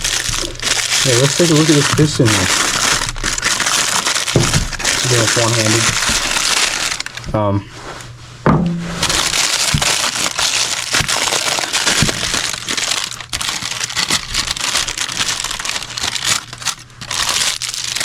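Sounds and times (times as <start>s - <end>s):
packaging crinkling and rustling: 0.0s - 7.4s, 9.0s - 18.0s.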